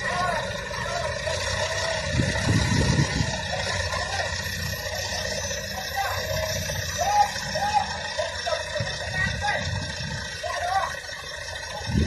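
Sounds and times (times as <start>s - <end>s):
diesel engine rumbling: 0.0s - 12.0s
faint voices: 0.0s - 12.0s.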